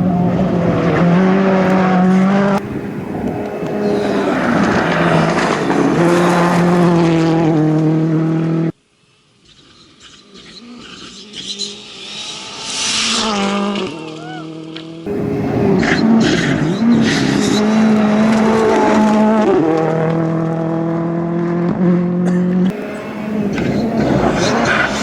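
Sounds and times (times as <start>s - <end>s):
car approaching with tyre noise: 0.0s - 8.8s, 10.5s - 25.0s
rally car engines at full throttle: 0.0s - 8.8s, 10.4s - 25.0s.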